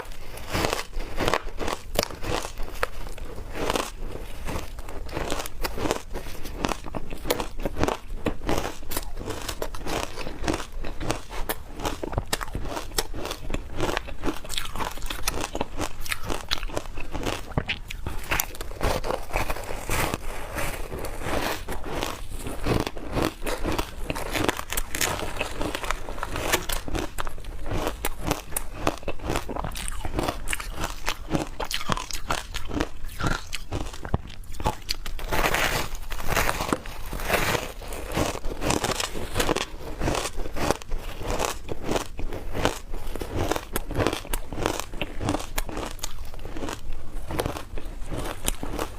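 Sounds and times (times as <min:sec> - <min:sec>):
person crunching ice: 0:00.0 - 0:48.9.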